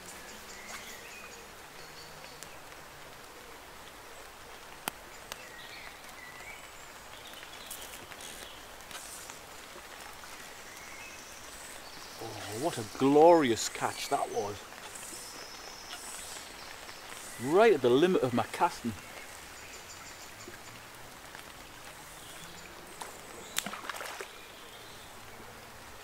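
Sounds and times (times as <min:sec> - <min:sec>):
small birds chirping: 0:00.0 - 0:02.7, 0:04.2 - 0:25.6
river hiss: 0:00.0 - 0:26.0.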